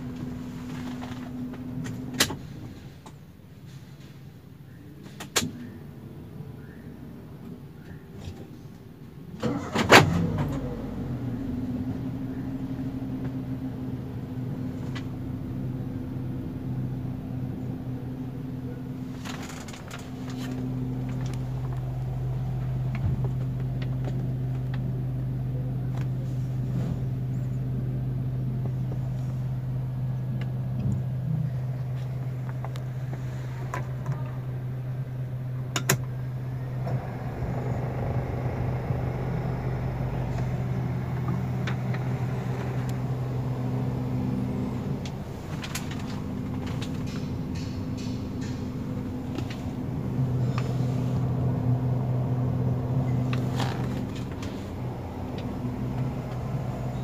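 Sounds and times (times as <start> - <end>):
car cabin droning hum: 0.0 - 2.9, 9.4 - 57.0.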